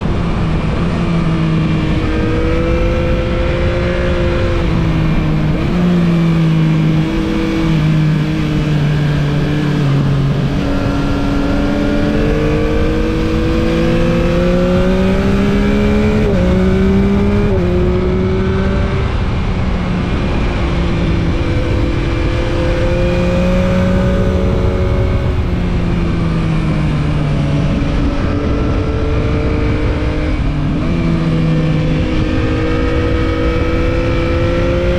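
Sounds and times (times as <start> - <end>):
motorcycle engine revving: 0.0 - 34.9
road rush: 0.0 - 34.9
wind rushing: 0.0 - 34.9.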